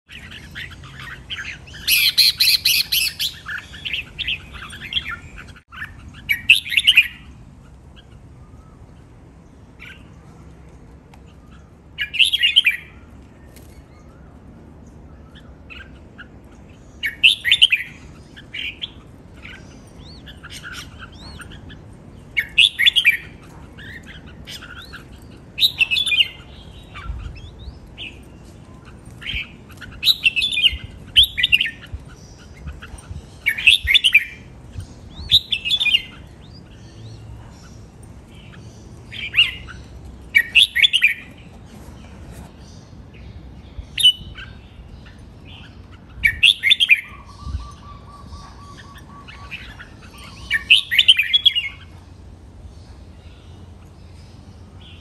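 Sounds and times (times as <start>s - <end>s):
bird singing chirping phrases: 0.0s - 55.0s.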